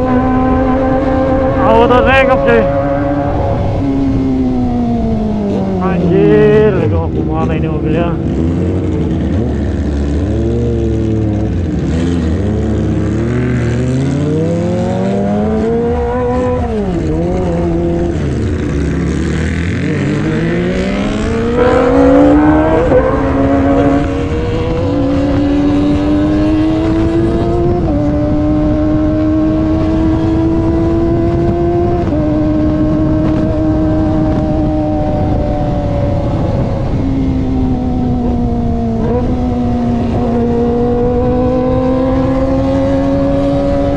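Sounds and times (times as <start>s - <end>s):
wind noise: 0.0s - 7.3s, 14.4s - 43.9s
motorcycle engine revving: 0.0s - 43.9s.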